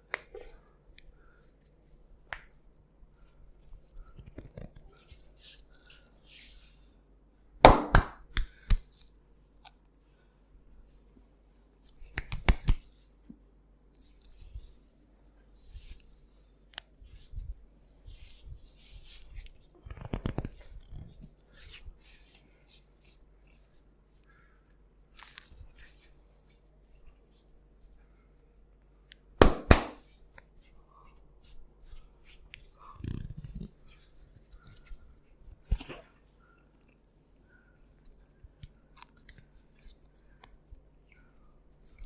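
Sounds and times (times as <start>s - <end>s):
hands rubbing skin and hair: 0.1s - 6.8s, 7.7s - 28.5s, 29.1s - 42.0s.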